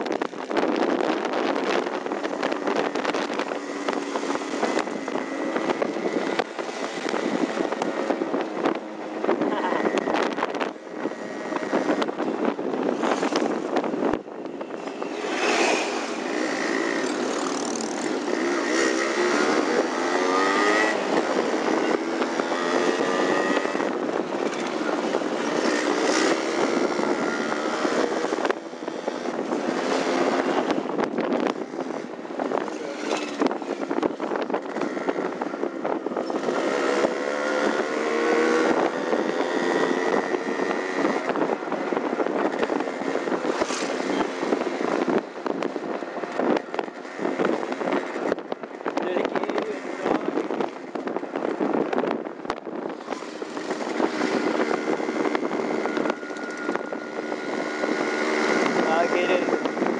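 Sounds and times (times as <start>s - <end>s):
two-stroke motorcycle engines revving: 0.0s - 59.9s.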